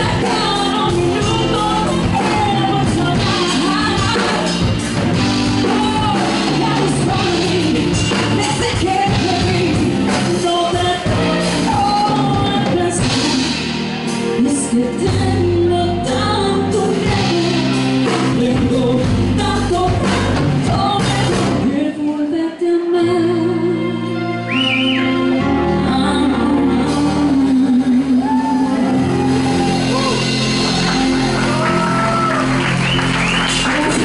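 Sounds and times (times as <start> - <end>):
band with guitar and drums: 0.0 - 21.9, 23.0 - 34.0
woman singing a ballad: 0.0 - 29.2, 33.5 - 34.0.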